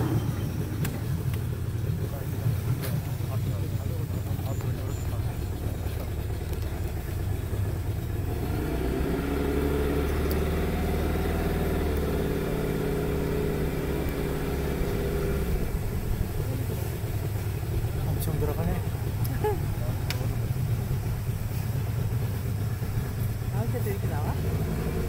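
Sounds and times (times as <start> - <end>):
outboard motor droning: 0.0 - 25.0.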